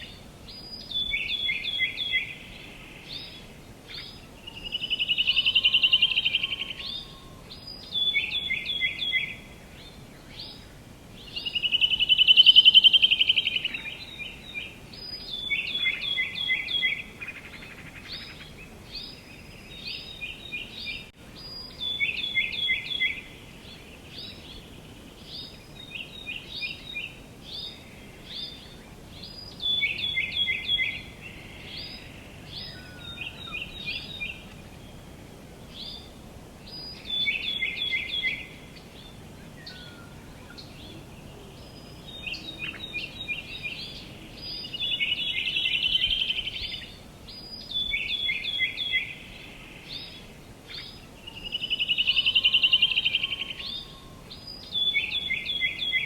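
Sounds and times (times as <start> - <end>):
faint outdoor background: 0.0 - 56.0
songbirds singing: 0.0 - 56.0.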